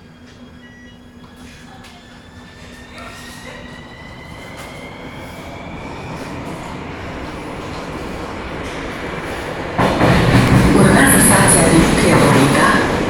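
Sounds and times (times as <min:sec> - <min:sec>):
train running rumble: 0:01.3 - 0:13.0.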